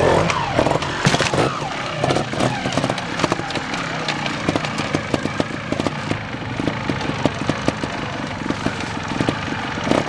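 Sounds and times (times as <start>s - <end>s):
motorcycle engine idling: 0.4s - 10.0s.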